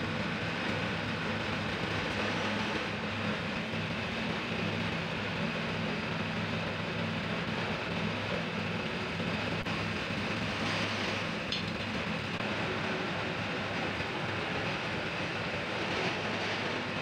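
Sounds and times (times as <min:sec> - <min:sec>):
air compressor engine running: 0:00.0 - 0:17.0.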